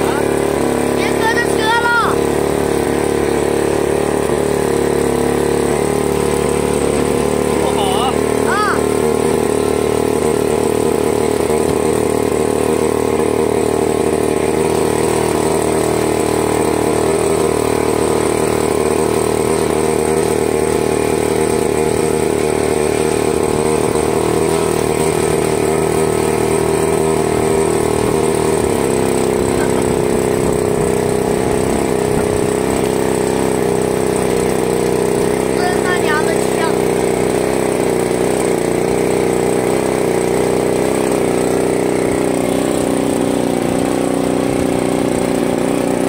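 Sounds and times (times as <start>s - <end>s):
model plane engine running: 0.0s - 46.0s.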